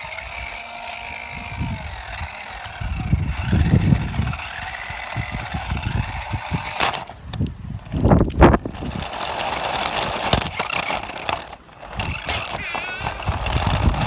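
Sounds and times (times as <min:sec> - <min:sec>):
low rumbling: 0:00.0 - 0:14.0
toy car electric motor whining: 0:00.0 - 0:14.0.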